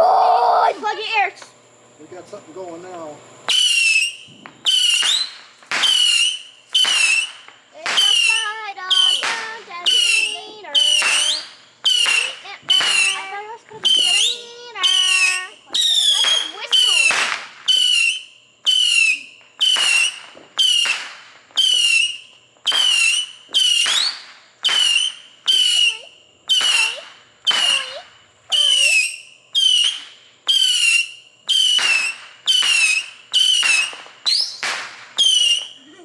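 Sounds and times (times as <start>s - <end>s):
whistling firework: 3.5s - 36.0s.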